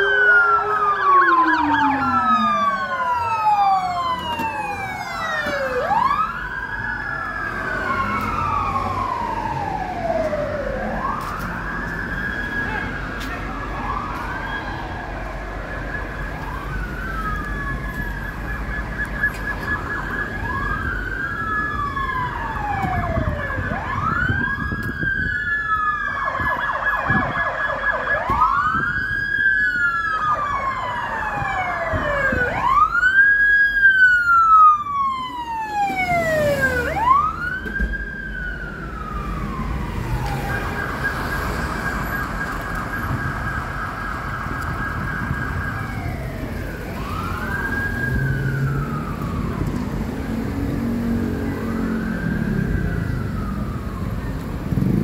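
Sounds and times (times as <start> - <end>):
city traffic rumble: 0.0 - 55.0
emergency sirens wailing: 0.0 - 55.0
high warbling siren: 0.0 - 55.0.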